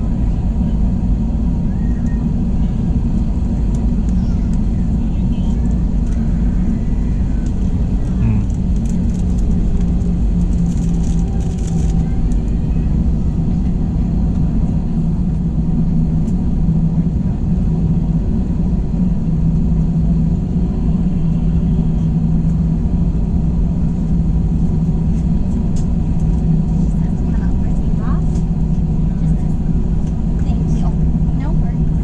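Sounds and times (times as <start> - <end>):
airliner cabin engine rumble: 0.0 - 32.0.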